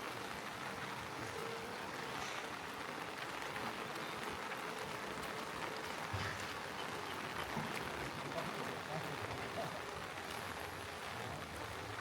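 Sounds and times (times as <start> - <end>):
raindrops ticking on surfaces: 0.0 - 12.0
steady rain falling: 0.0 - 12.0.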